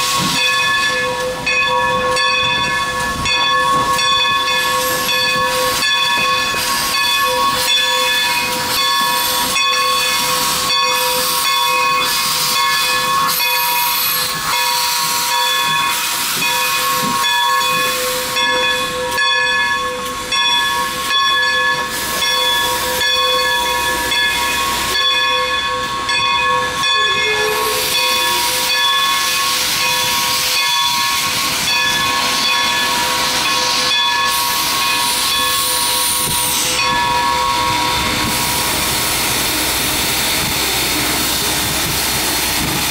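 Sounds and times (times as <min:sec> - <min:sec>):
steam locomotive hissing: 0:00.0 - 0:42.9.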